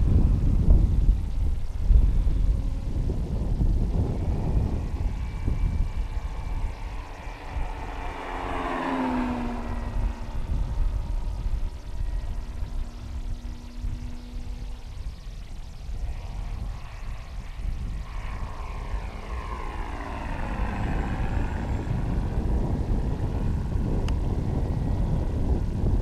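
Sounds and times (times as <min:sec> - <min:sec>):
model plane whine passing overhead: 0:00.0 - 0:26.0
wind rumble on microphone: 0:00.0 - 0:26.0.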